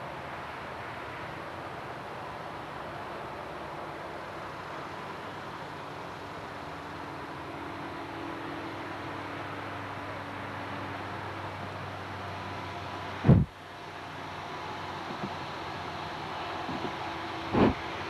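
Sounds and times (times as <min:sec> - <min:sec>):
faint engine hum: 0:00.0 - 0:18.0.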